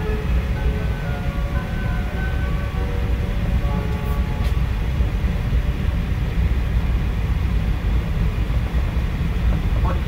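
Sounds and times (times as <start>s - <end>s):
train running noise from inside: 0.0s - 10.0s.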